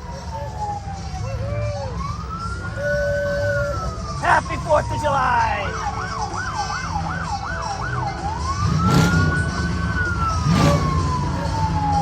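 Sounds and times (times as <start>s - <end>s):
emergency vehicle siren: 0.0s - 12.0s
low vehicle rumble: 0.0s - 12.0s.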